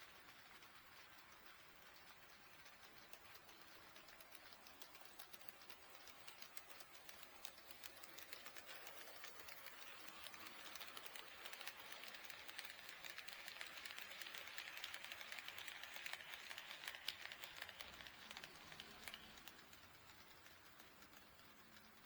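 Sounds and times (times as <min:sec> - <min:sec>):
model train rolling with clicks: 0:00.0 - 0:22.0.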